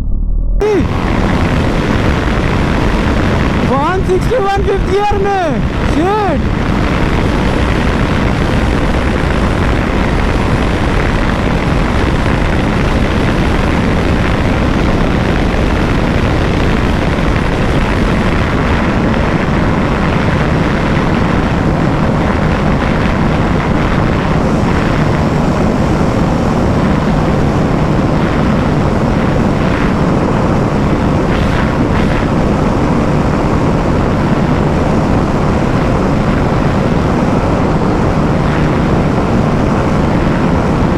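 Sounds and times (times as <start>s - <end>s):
heavy wind rush: 0.0s - 40.9s
motorcycle engine drone: 0.0s - 40.9s.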